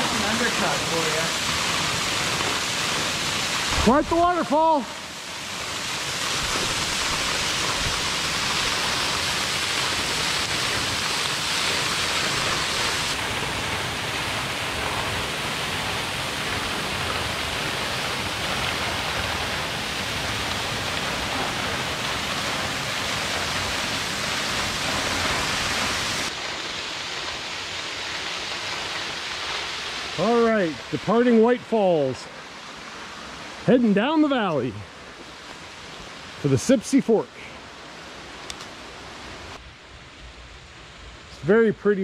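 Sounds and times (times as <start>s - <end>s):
waterfall splashing onto rocks: 0.0s - 37.0s.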